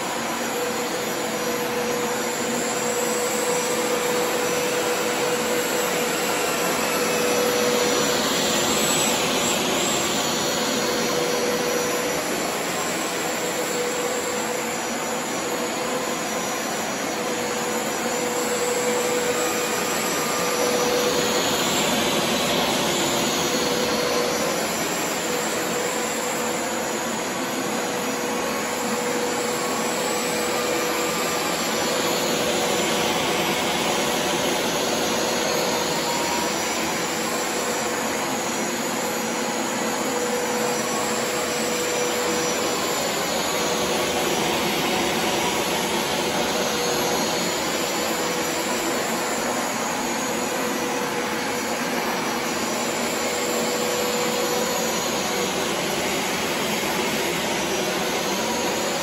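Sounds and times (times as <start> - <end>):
carpet washer motor whine and hiss: 0.0 - 59.0.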